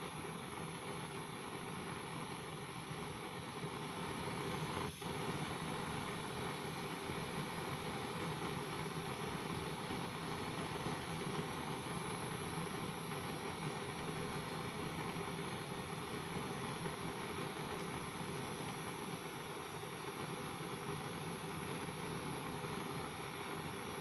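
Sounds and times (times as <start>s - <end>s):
blowtorch flame hissing: 0.0s - 24.0s.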